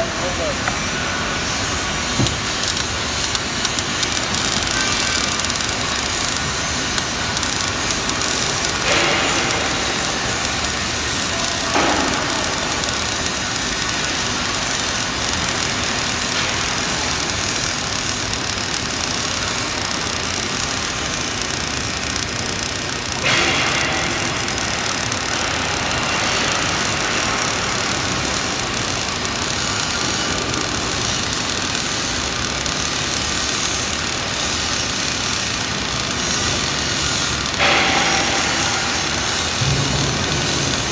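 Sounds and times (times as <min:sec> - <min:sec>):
welding arc crackling: 0:01.4 - 0:40.9.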